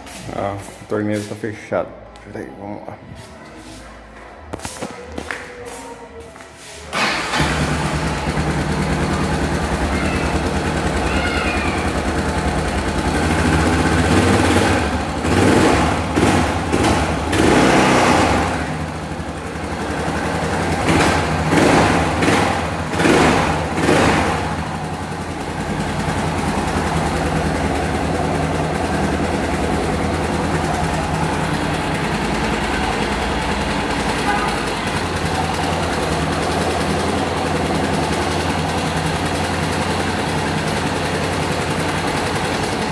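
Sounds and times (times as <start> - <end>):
engine throttle blips: 6.9 - 42.9
motorcycle engine idling: 7.0 - 42.9.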